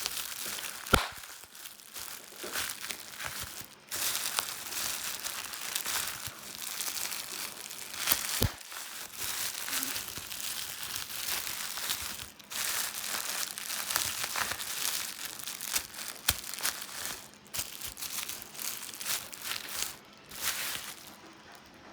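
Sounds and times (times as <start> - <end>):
bubble wrap popping: 0.0 - 21.2.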